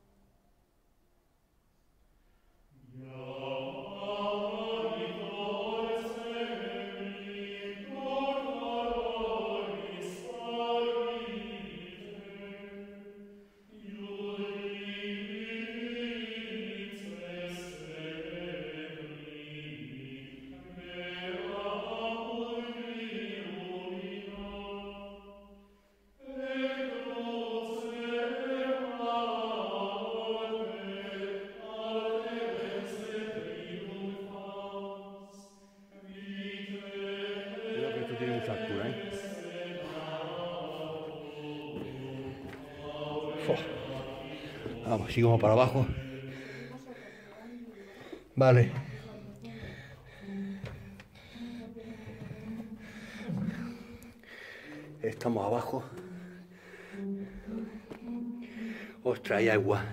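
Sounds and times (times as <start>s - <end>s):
choral chant: 2.7s - 59.9s.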